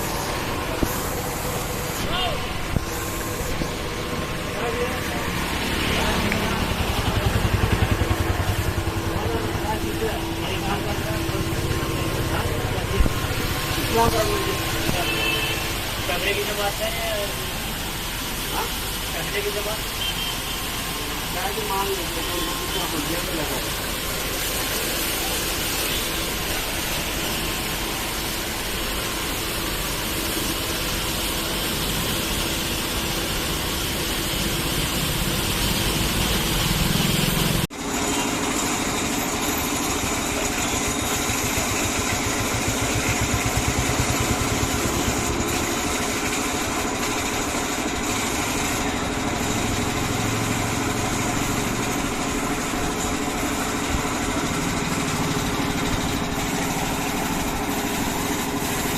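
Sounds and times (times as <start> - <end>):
hissing water spray: 0.0 - 58.9
machine running: 0.0 - 58.9.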